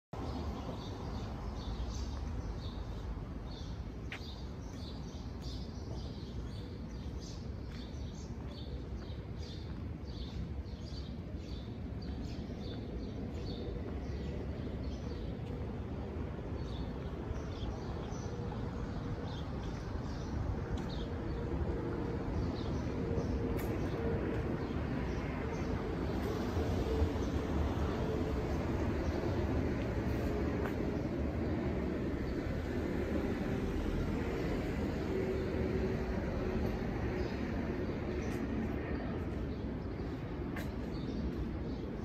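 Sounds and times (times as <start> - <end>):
songbirds chirping: 0.2 - 42.0.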